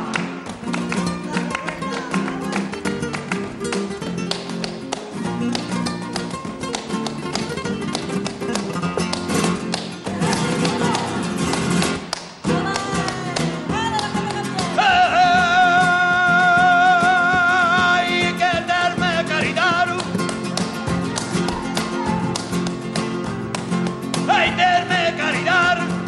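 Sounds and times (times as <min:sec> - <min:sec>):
flamenco guitar music: 0:00.0 - 0:26.0.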